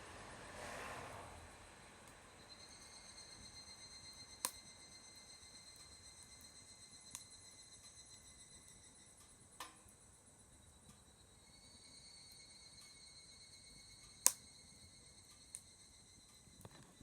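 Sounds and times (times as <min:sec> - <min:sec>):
wood fire burning: 0:00.0 - 0:11.5, 0:14.1 - 0:17.0.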